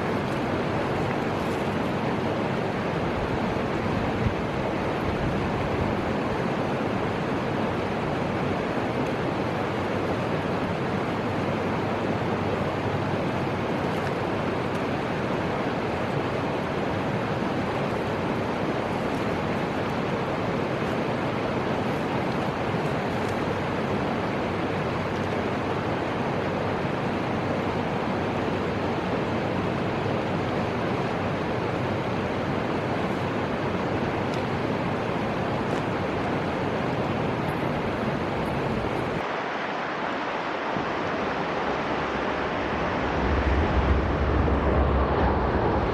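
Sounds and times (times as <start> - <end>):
river water rushing: 0.0 - 45.9
wind: 0.0 - 45.9.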